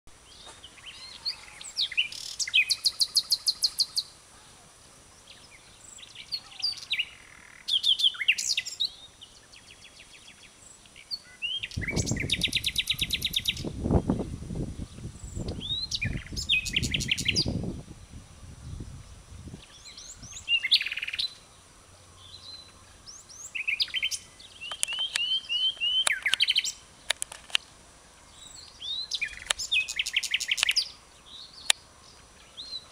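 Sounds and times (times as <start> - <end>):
nightingale singing: 0.2 - 4.2, 5.2 - 32.9.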